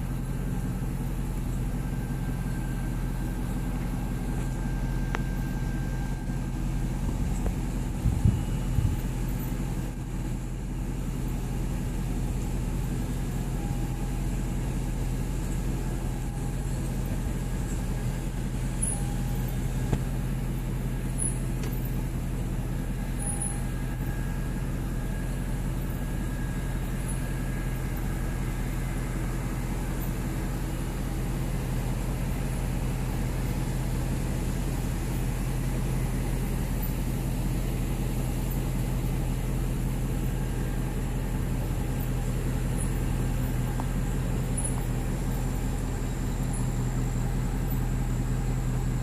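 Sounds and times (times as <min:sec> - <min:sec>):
car engine running: 0:00.0 - 0:49.0
road noise: 0:00.0 - 0:49.0.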